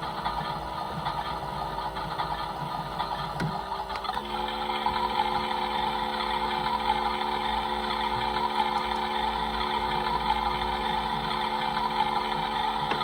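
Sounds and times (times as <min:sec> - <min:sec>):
toy electric motor whirring hum: 0:00.0 - 0:13.0.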